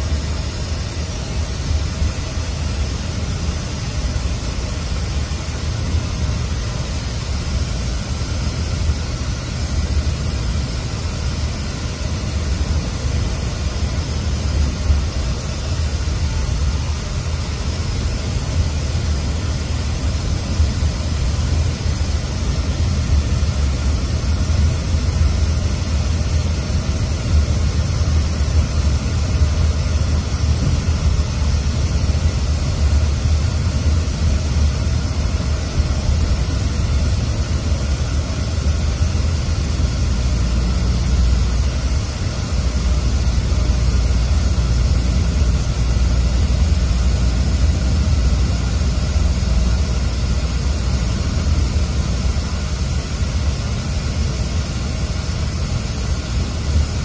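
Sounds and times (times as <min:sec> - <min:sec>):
air conditioning blowing: 0:00.0 - 0:57.0.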